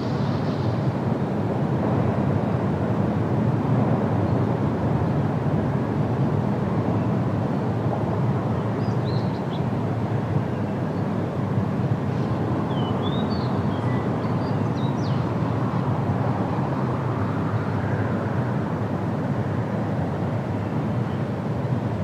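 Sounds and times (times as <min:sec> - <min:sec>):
wind rushing through trees: 0:00.0 - 0:22.0.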